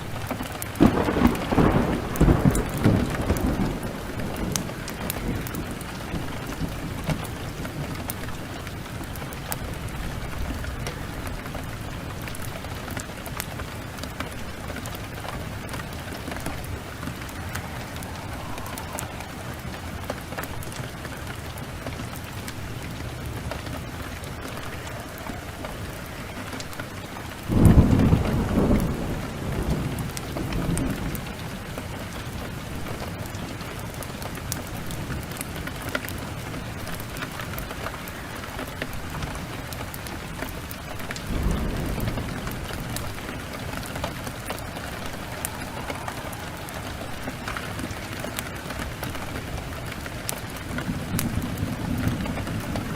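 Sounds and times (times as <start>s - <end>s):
heavy rain: 0.0s - 52.9s
thunder clap rumbling: 0.0s - 52.9s.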